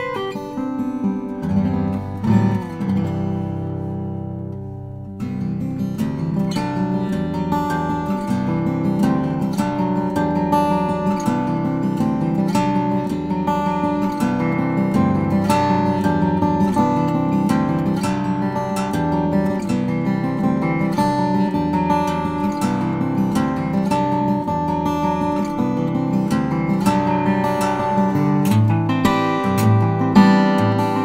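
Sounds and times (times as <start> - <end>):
fingerstyle acoustic guitar: 0.0 - 31.0.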